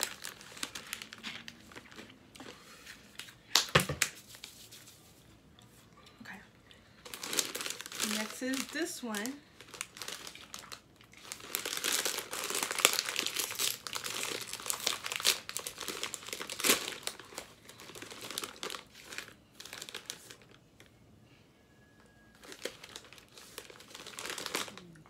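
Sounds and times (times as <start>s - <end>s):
plastic snack packet crinkling: 0.0s - 4.2s, 6.9s - 20.9s, 22.3s - 25.0s.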